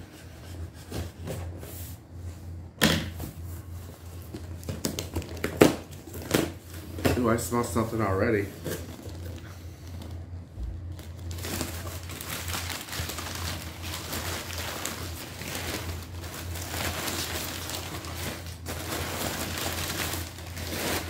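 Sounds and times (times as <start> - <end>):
steady low hum: 0.0 - 21.0
paper packing rustling: 3.6 - 21.0.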